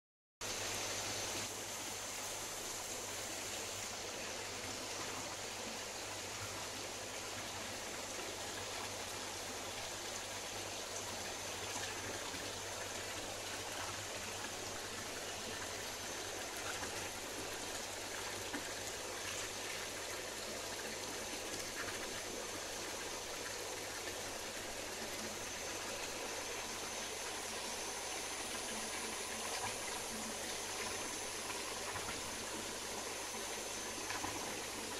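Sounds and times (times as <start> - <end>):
pond water bubbling and splashing: 0.4 - 34.9.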